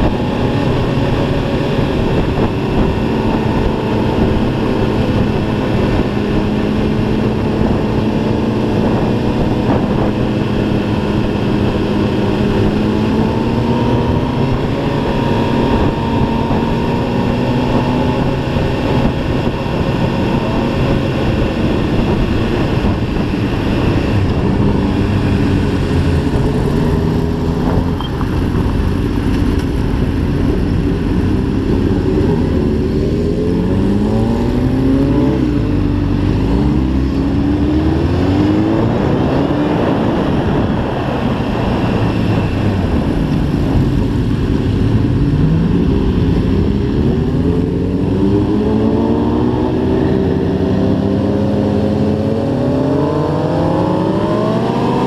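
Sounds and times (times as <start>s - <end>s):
motorcycle engine shifting gears: 0.0s - 55.0s
wind rush: 0.0s - 55.0s.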